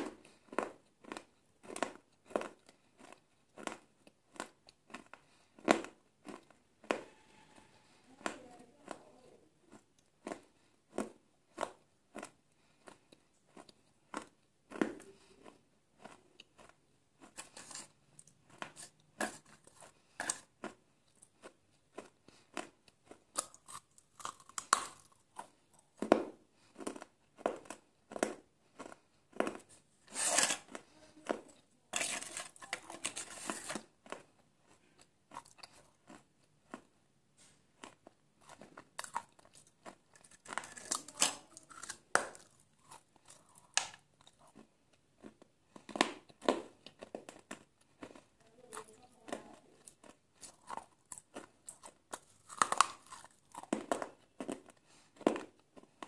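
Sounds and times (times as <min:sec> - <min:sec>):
chewing crunchy fried food: 0:00.0 - 0:56.0.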